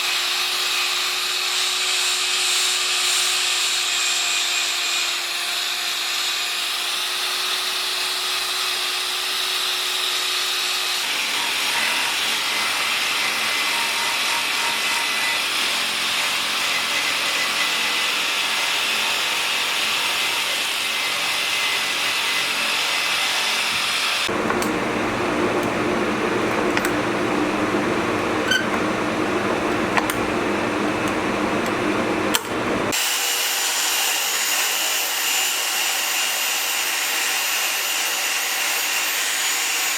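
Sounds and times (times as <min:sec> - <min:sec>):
power tool sanding wood: 0:00.0 - 0:39.9.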